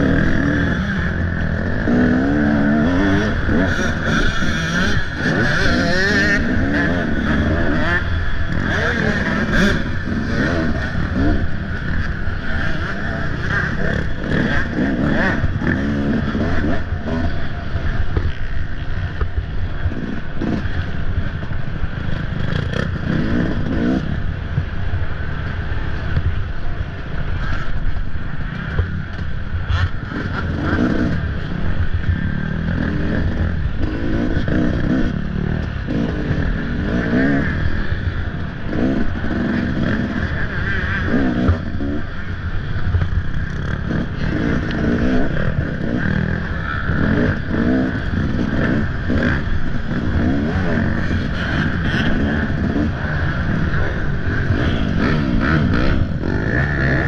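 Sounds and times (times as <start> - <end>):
dirt bike engine revving: 0.0 - 21.2, 21.9 - 24.8, 29.7 - 57.0.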